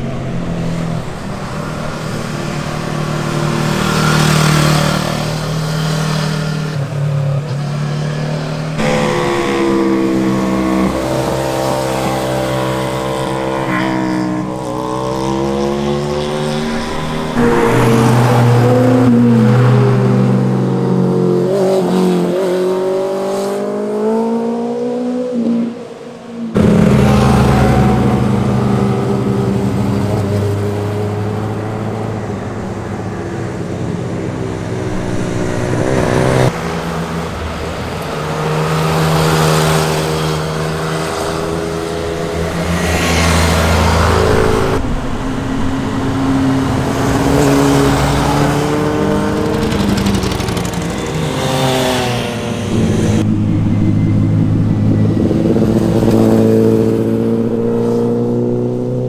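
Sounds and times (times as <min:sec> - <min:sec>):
sport motorcycles passing: 0:00.0 - 0:59.0.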